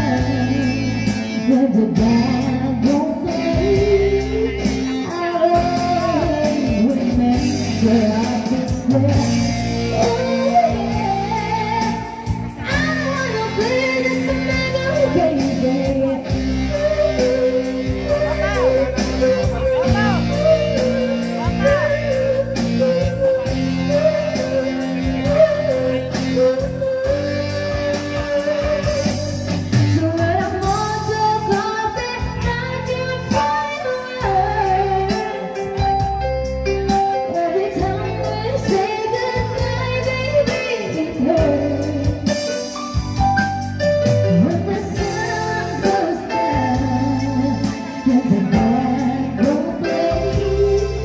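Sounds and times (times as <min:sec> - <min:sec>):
instrumental backing music: 0:00.0 - 0:51.0
woman singing into a microphone: 0:00.0 - 0:51.0.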